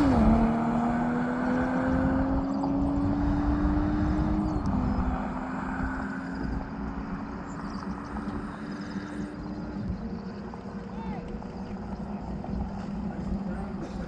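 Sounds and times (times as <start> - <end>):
distant race engine revving: 0.0 - 14.0.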